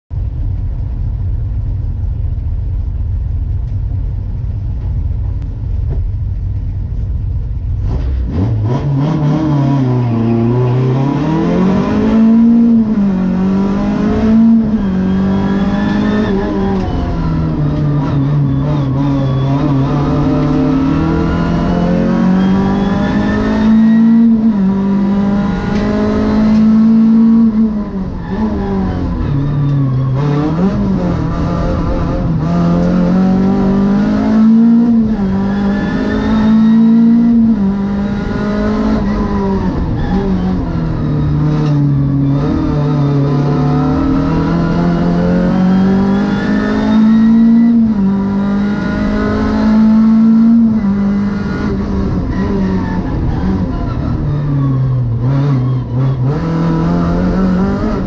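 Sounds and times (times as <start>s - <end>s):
race car engine revving: 7.6s - 58.0s.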